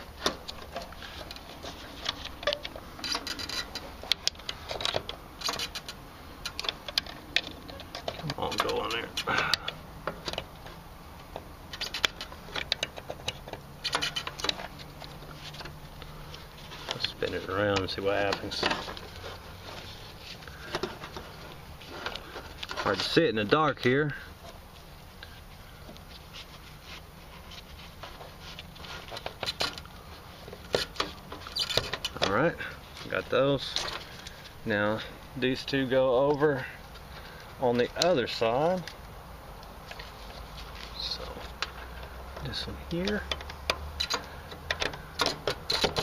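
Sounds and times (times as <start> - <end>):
connector clicks and scrapes: 0.0 - 34.6, 39.6 - 46.0
low steady hum: 0.0 - 46.0.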